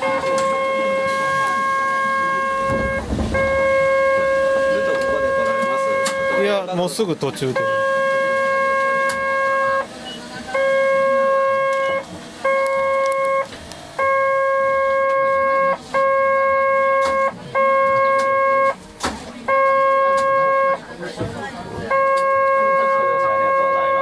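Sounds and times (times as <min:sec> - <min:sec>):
tram warning tone beeps: 0:00.0 - 0:18.8, 0:19.4 - 0:21.0, 0:21.8 - 0:24.0.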